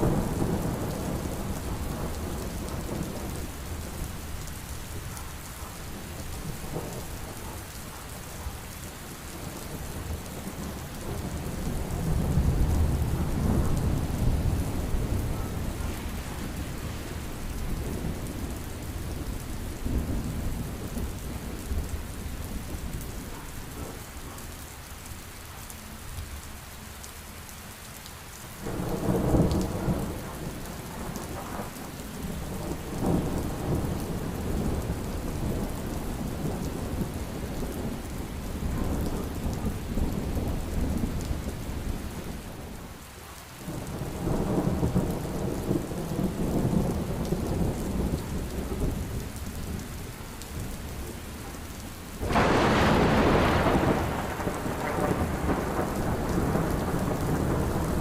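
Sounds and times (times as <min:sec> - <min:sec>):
rolling thunder: 0:00.0 - 0:07.6, 0:09.5 - 0:24.0, 0:28.6 - 0:42.6, 0:43.7 - 0:49.8, 0:52.2 - 0:58.0
heavy rain: 0:00.0 - 0:58.0.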